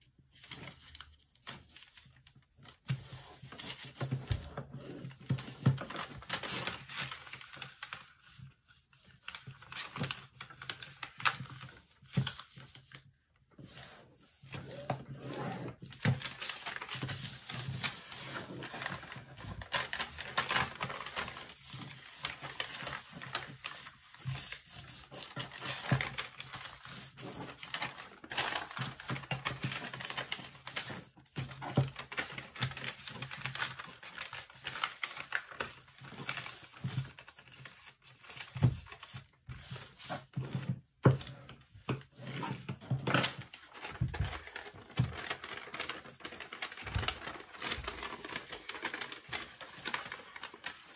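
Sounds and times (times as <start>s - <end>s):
paper crackling and rustling: 0.0s - 50.9s.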